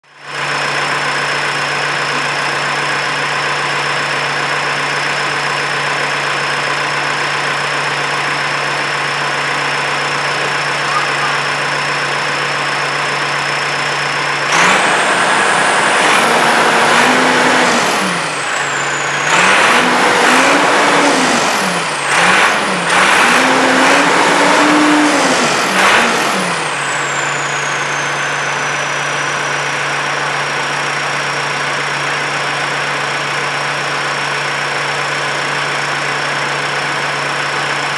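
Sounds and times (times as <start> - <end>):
tractor diesel engine: 0.0 - 37.9.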